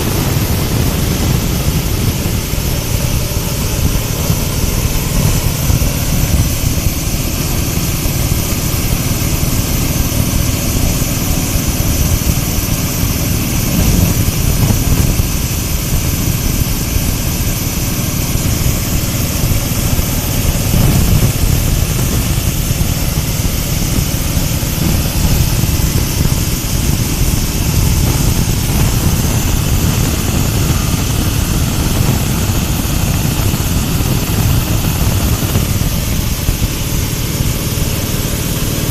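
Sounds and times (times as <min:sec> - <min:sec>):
grinding machine rumbling: 0:00.0 - 0:38.9.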